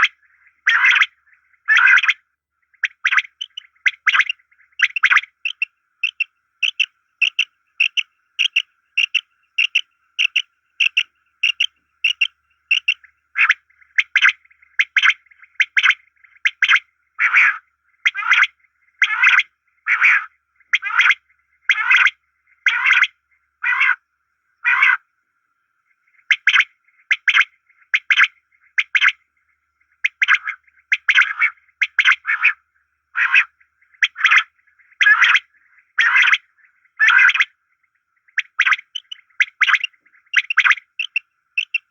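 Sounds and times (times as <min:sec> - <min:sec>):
birds calling: 0:00.0 - 0:24.0, 0:26.0 - 0:41.9.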